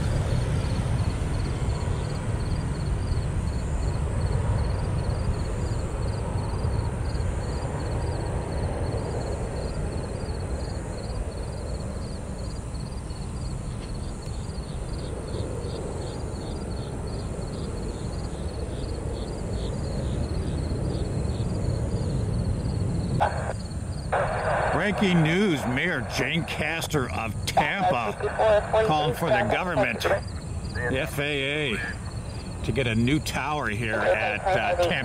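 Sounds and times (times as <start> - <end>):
distant jet engine rumble: 0.0 - 35.0.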